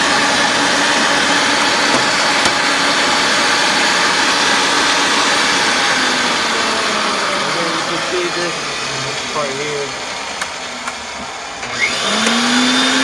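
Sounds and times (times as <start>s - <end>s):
pipe threading machine humming: 0.0s - 13.0s.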